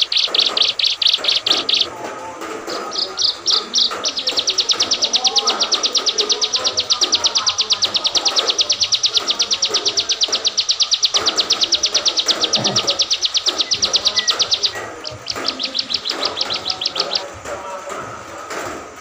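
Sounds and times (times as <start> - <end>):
bird singing rapid trill: 0.0 - 18.9.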